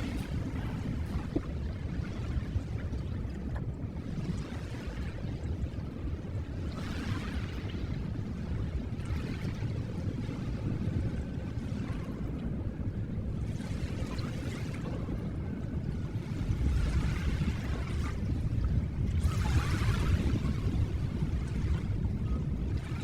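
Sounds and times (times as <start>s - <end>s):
ocean surf washing: 0.0s - 23.0s.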